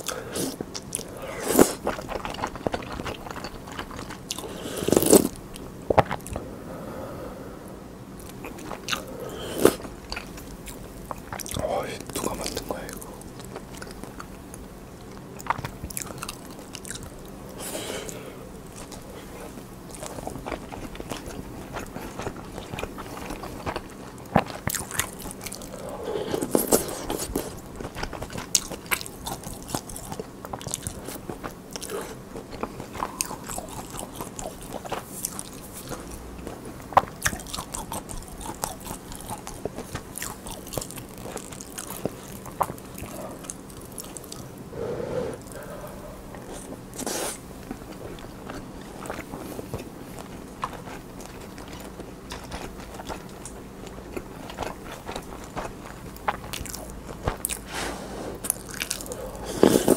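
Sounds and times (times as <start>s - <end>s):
chewing and biting: 0.0s - 6.5s, 8.2s - 44.5s, 45.4s - 59.9s.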